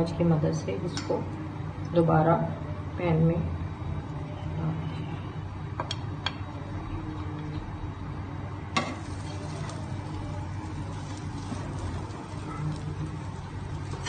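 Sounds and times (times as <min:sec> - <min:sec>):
faint frying: 0:00.0 - 0:14.0
steady low hum: 0:00.0 - 0:14.0.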